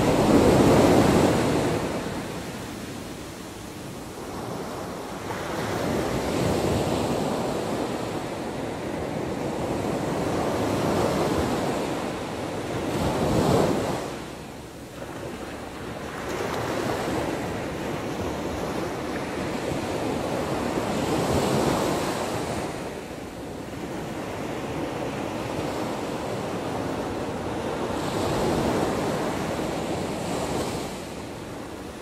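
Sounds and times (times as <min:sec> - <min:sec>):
waves breaking on a beach: 0:00.0 - 0:32.0.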